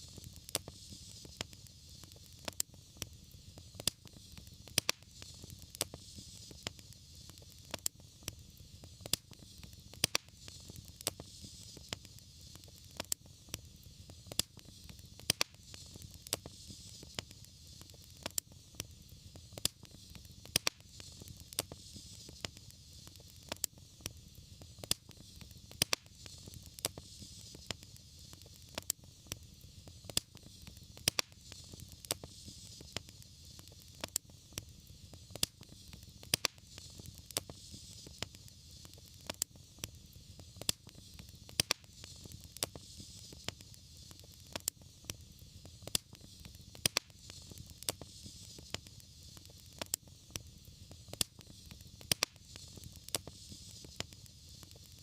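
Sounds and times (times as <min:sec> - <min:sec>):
hiss and rumble of flames: 0:00.0 - 0:55.0
wood fire popping: 0:00.0 - 0:55.0.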